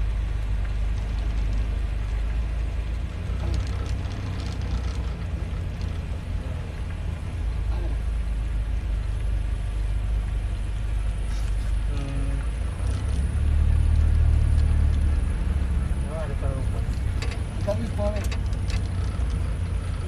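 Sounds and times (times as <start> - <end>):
vehicle driving on road: 0.0 - 20.0.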